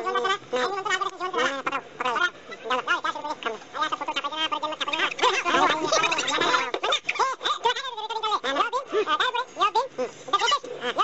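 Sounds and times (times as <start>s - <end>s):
people talking: 0.0s - 11.0s.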